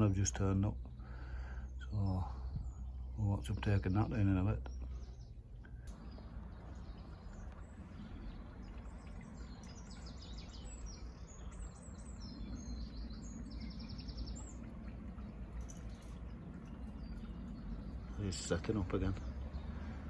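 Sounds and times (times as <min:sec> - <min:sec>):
low outdoor background rumble: 0:00.0 - 0:20.0
songbird chirping and trilling: 0:00.0 - 0:20.0.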